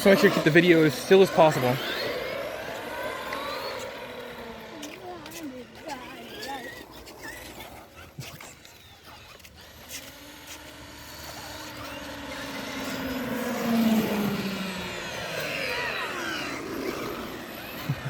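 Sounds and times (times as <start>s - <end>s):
vehicle driving past: 0.0s - 7.6s, 9.6s - 18.0s.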